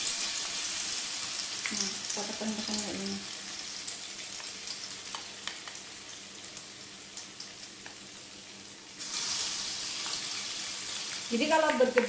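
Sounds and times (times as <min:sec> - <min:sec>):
patties sizzling in hot oil: 0:00.0 - 0:12.0.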